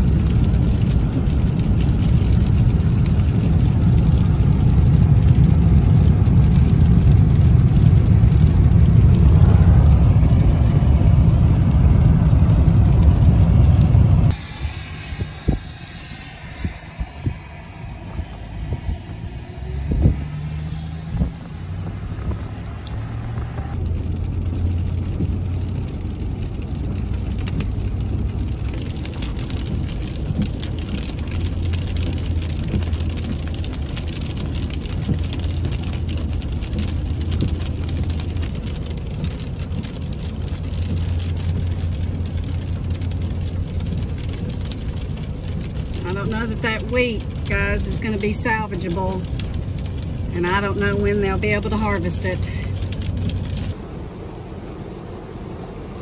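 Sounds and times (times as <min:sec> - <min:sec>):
car engine hum: 0:00.0 - 0:56.0
tyre noise on wet road: 0:00.0 - 0:56.0.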